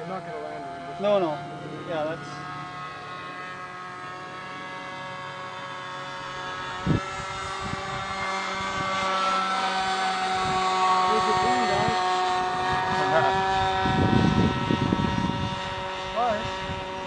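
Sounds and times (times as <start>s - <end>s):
model airplane motor whine: 0.0s - 17.0s.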